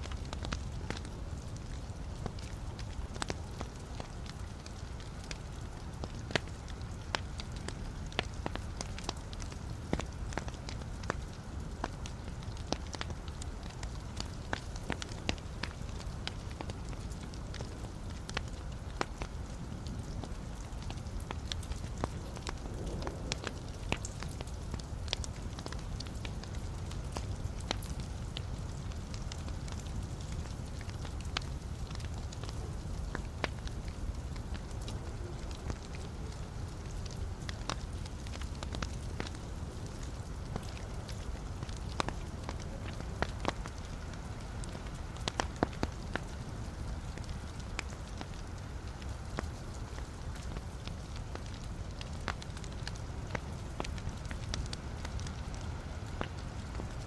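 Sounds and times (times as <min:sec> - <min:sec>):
log fire crackling: 0:00.0 - 0:57.0
low rumble of flames: 0:00.0 - 0:57.0.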